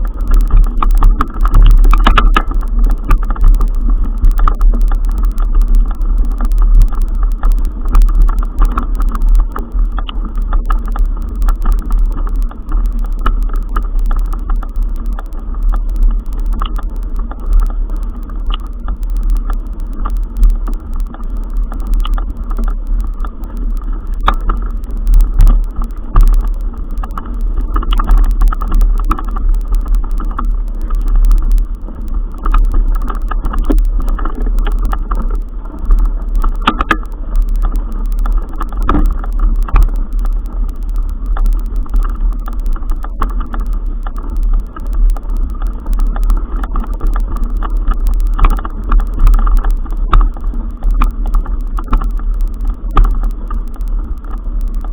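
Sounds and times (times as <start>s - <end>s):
small clicks and rattles: 0.0s - 54.9s.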